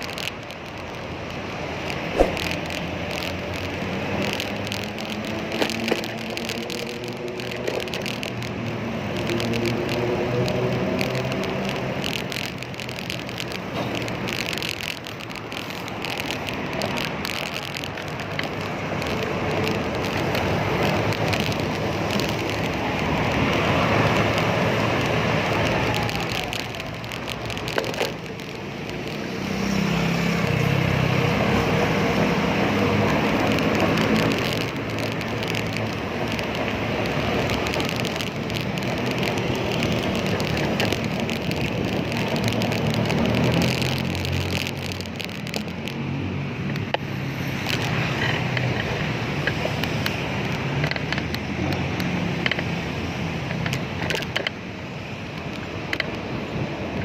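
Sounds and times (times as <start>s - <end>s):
steady road noise: 0.0s - 57.0s.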